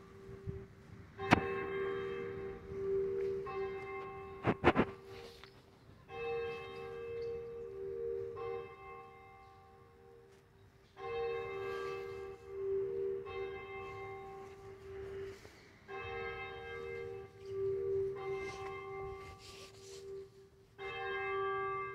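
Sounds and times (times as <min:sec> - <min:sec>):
church bell tolling: 0:00.0 - 0:21.9.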